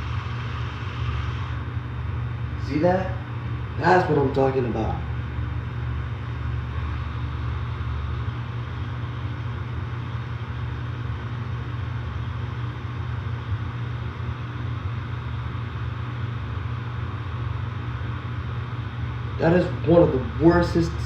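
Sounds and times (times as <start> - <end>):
compressor hum: 0.0 - 21.0
condenser fan whoosh: 0.0 - 21.0.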